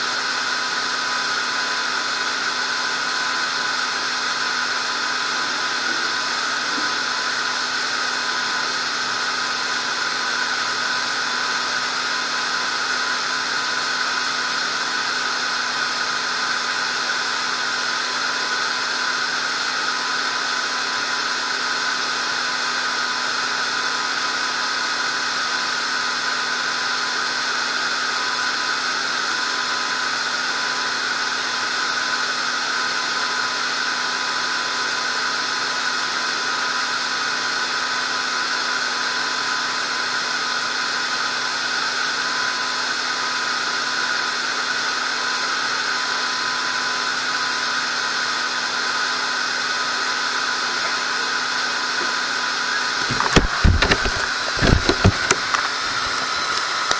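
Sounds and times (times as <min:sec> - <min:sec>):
machine hum and hiss: 0:00.0 - 0:56.9.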